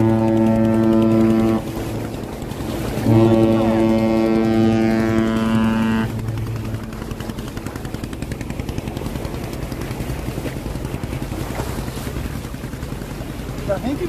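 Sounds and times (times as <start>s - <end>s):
small boat motor running: 0.0s - 14.0s
water noise: 0.0s - 14.0s.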